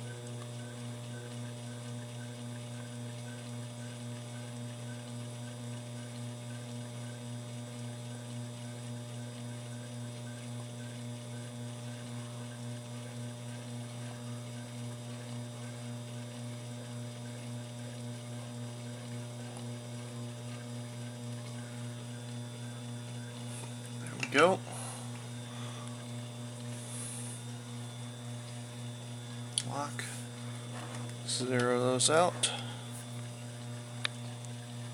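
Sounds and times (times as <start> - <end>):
mill spindle motor humming: 0.0 - 34.9.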